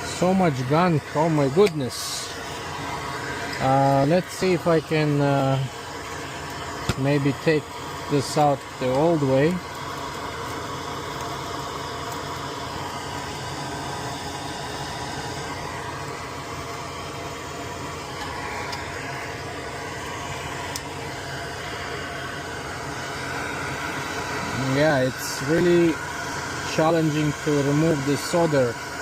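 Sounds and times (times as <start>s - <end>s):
fan or motor humming: 0.0s - 29.0s.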